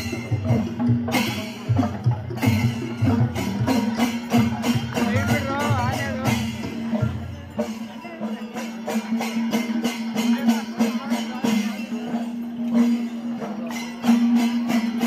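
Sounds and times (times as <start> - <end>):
jingling metallic strokes: 0.0 - 15.0
percussion beat: 0.0 - 15.0.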